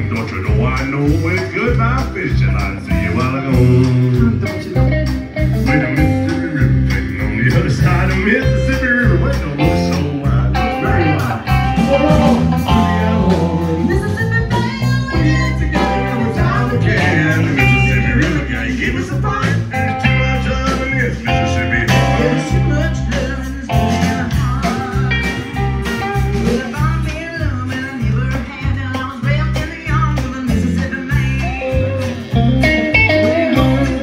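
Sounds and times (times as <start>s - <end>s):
acoustic guitar: 0.0s - 34.0s
backing band with bass: 0.0s - 34.0s
man and woman singing duet: 0.0s - 34.0s.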